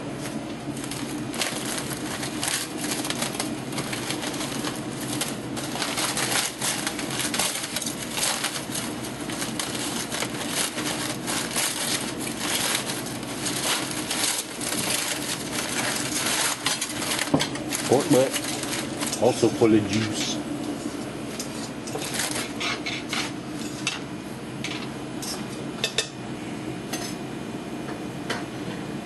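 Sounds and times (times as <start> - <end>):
aluminium foil crinkling: 0.2 - 23.8.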